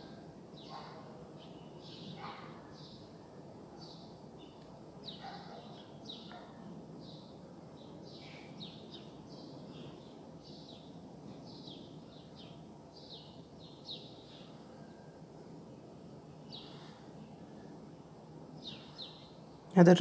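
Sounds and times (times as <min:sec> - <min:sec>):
low outdoor background hum: 0:00.0 - 0:20.0
small birds chirping: 0:00.0 - 0:20.0.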